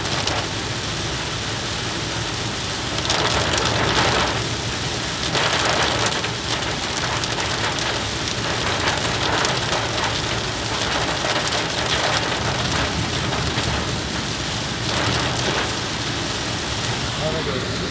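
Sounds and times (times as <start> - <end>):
heavy rain on car windscreen: 0.0 - 17.9
moving car rumble: 0.0 - 17.9.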